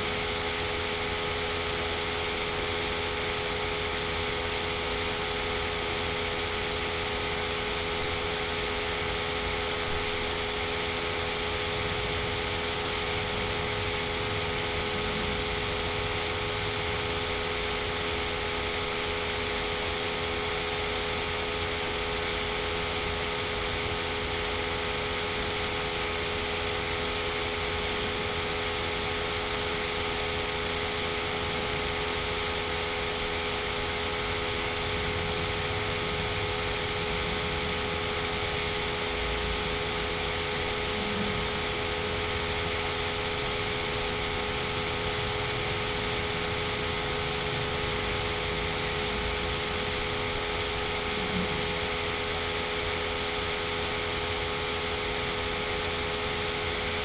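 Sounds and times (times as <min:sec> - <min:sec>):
machine hum and hiss: 0:00.0 - 0:57.0.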